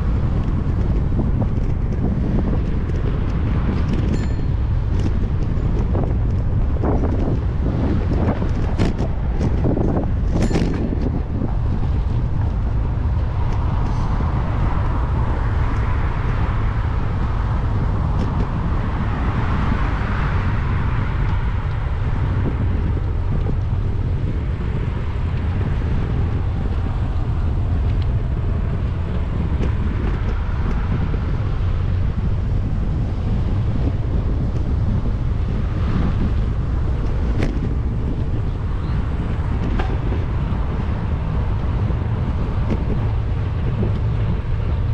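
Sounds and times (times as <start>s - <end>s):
road traffic: 0.0s - 44.9s
wind buffeting microphone: 0.0s - 44.9s.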